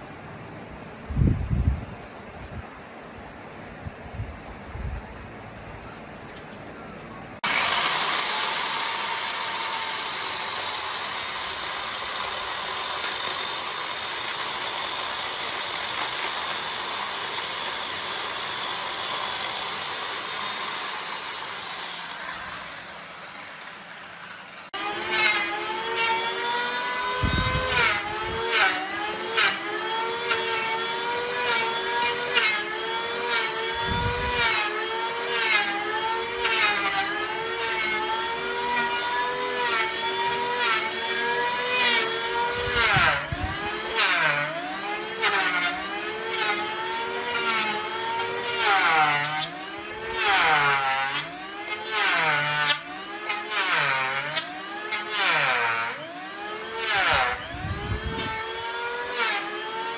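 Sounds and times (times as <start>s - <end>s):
power tool motor whining: 7.4s - 59.9s.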